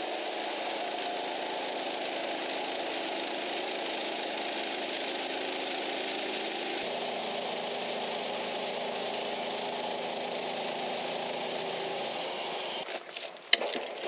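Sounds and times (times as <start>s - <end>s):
woodworking machine whirring: 0.0s - 12.9s.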